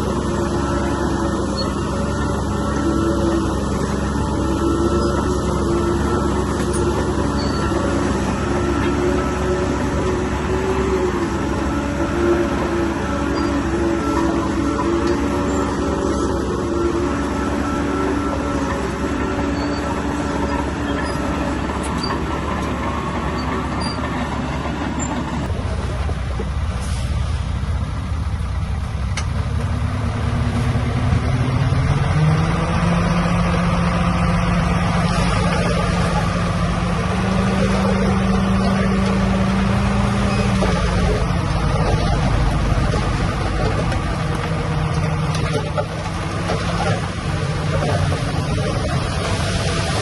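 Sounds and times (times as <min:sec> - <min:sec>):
diesel engine running and revving: 0:00.0 - 0:50.0.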